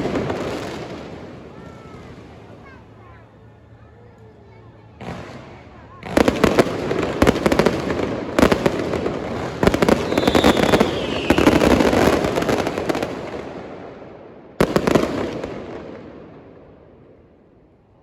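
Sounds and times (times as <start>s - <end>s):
fireworks bursting and crackling: 0.0s - 3.2s, 4.9s - 17.2s.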